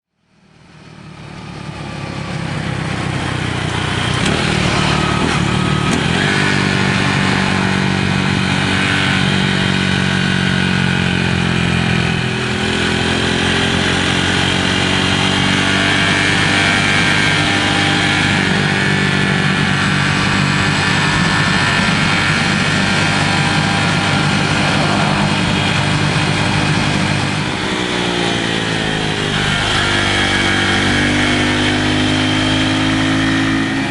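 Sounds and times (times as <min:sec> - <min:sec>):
resonant engine noise: 0:00.2 - 0:33.9
motorcycle engine at high revs: 0:00.3 - 0:33.9.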